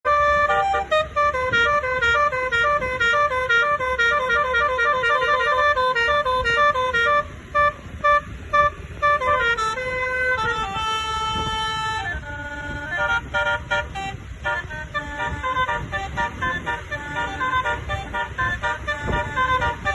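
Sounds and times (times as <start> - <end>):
bus musical horn melody: 0.0 - 19.9.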